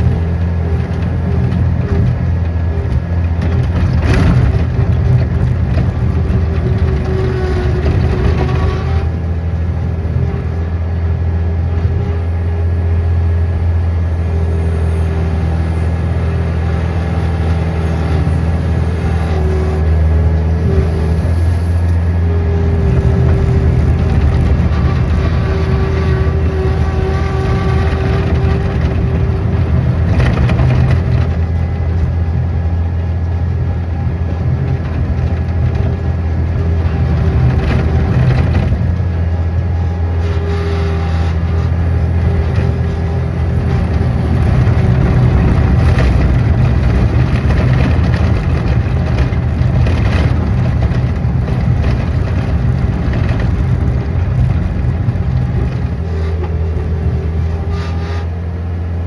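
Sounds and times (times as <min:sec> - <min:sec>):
crunching and rattling: 0:00.0 - 0:11.1, 0:14.2 - 0:58.4
large engine running: 0:00.0 - 0:59.0.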